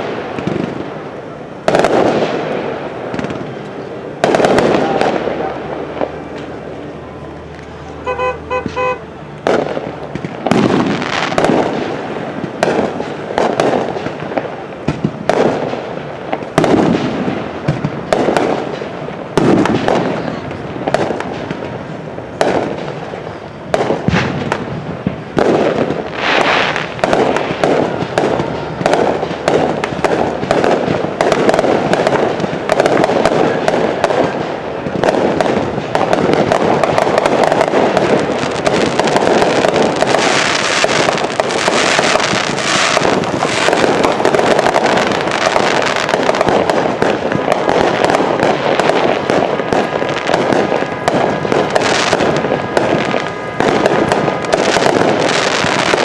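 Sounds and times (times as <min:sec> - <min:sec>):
fireworks shots and crackle: 0:00.0 - 0:56.0.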